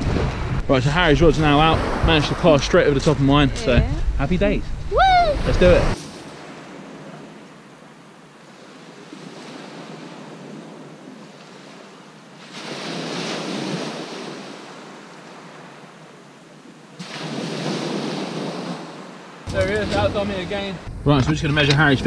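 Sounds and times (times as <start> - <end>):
waves washing on shingle beach: 0.9 - 3.9, 5.4 - 22.0.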